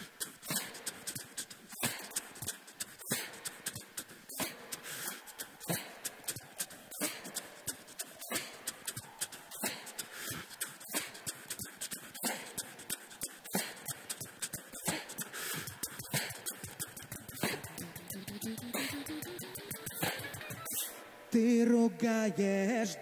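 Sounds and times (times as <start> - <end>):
beatboxing drum beat: 0.0 - 21.0.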